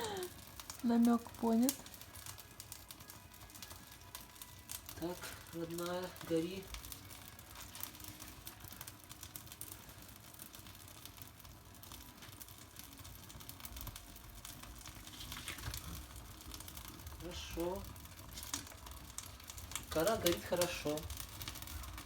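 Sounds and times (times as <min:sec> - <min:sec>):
kindling fire crackling: 0:00.0 - 0:22.0.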